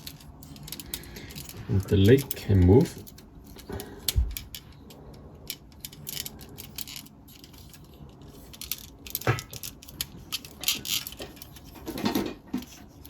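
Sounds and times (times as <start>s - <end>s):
plastic parts clicking and rattling: 0.0s - 13.0s.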